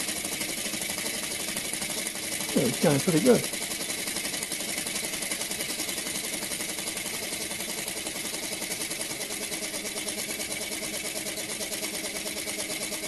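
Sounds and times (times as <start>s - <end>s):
model steam engine running: 0.0s - 13.0s.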